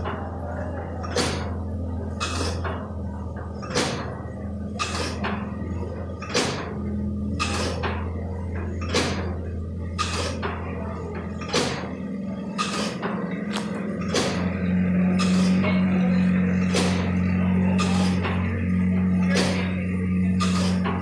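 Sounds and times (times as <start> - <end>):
steam engine exhaust chuffs: 0.0 - 21.0.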